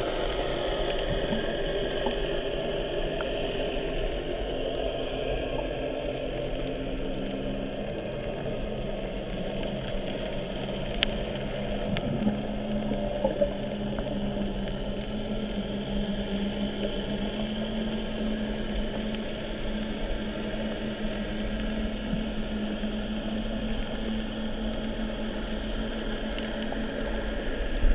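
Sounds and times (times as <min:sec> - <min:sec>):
low steady hum: 0:00.0 - 0:27.9
underwater hiss: 0:00.0 - 0:27.9.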